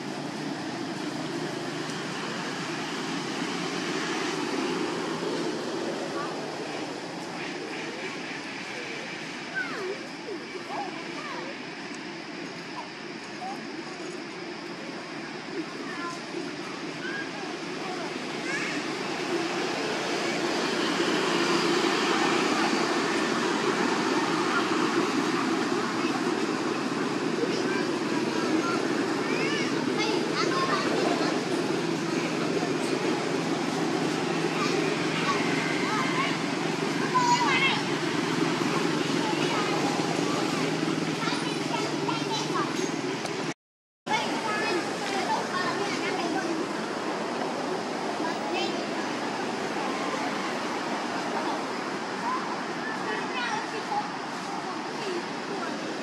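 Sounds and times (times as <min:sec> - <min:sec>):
rushing background noise: 0:00.0 - 0:56.0.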